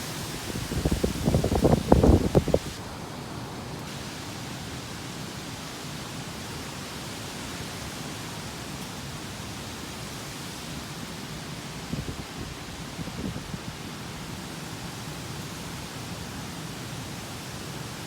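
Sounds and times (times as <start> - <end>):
steady hiss of noise: 0.0 - 18.0.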